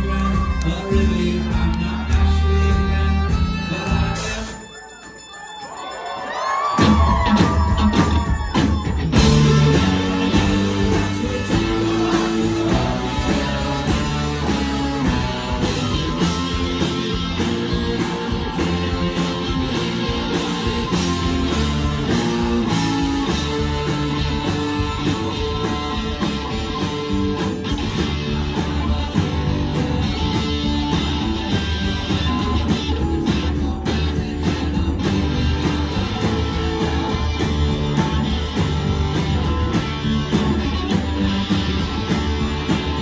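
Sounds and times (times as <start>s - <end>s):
bass guitar: 0.0s - 4.8s, 6.8s - 43.0s
electric guitars: 0.0s - 4.8s, 6.4s - 43.0s
drums: 0.0s - 43.0s
keyboards: 0.0s - 43.0s.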